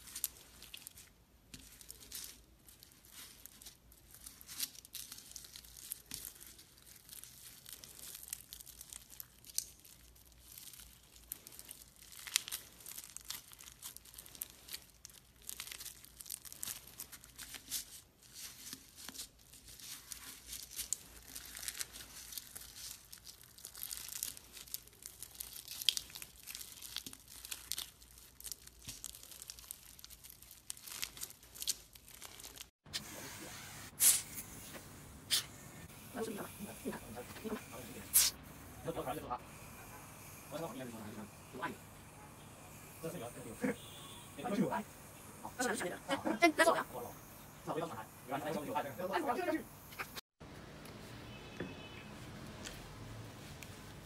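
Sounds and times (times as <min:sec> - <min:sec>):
bead slime crackling: 0:00.0 - 0:33.0, 0:33.8 - 0:50.2.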